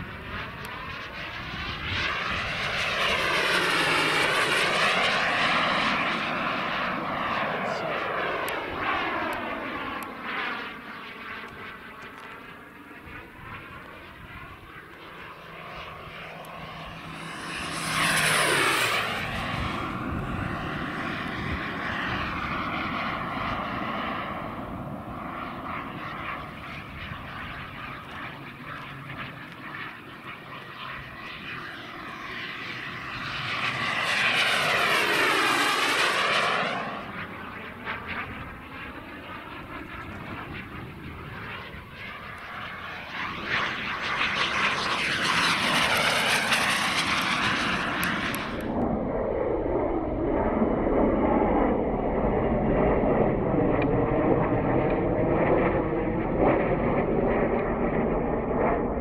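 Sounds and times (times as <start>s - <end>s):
jet fly-by: 0.0s - 59.0s
jet turbine whine: 0.0s - 59.0s.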